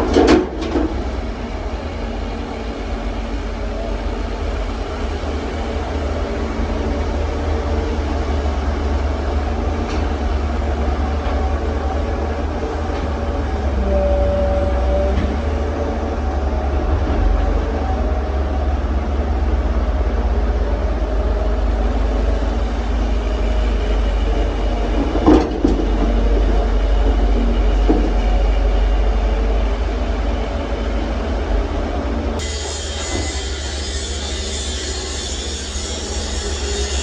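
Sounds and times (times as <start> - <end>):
diesel engine rumbling: 0.0 - 32.5.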